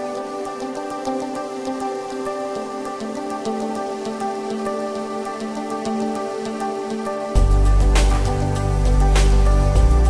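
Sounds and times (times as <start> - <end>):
soft sustained chords: 0.0 - 10.0.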